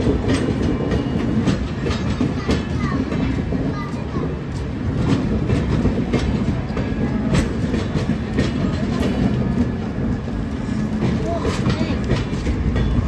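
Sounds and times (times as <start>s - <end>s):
train wheels rumbling on rails: 0.0s - 13.0s
wheels clacking over rail joints: 0.0s - 13.0s.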